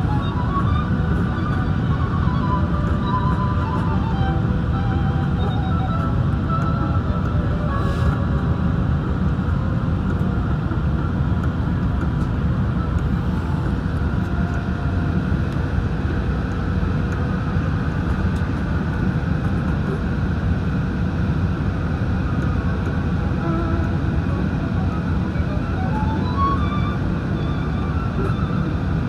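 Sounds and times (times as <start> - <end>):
faint constant whine: 0.0 - 29.0
jet engines rumbling: 0.0 - 29.0.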